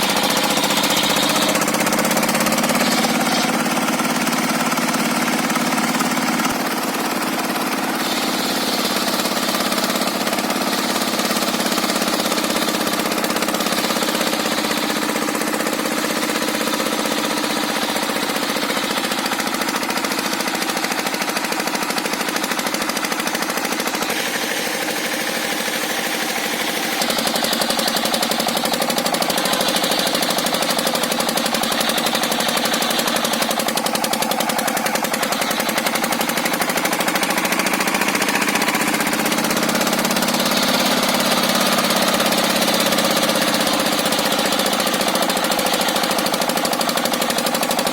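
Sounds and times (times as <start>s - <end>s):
saw cutting hiss: 0.0s - 21.8s, 23.2s - 47.9s
engine chugging: 0.0s - 47.9s.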